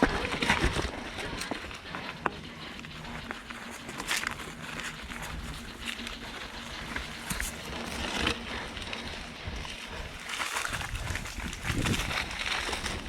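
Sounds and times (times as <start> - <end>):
bicycle tyre noise on dirt: 0.0 - 13.0.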